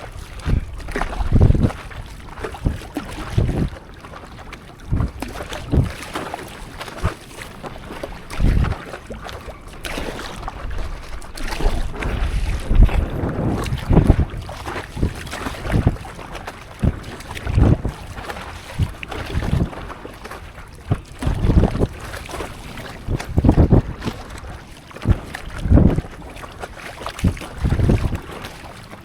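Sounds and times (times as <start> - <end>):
wind buffeting microphone: 0.0 - 28.8
water splashing around paddleboard: 0.0 - 29.0.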